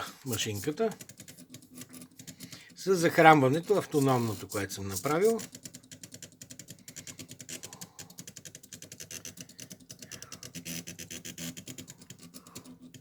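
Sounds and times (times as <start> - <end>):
motors clicking rapidly: 0.2 - 13.0.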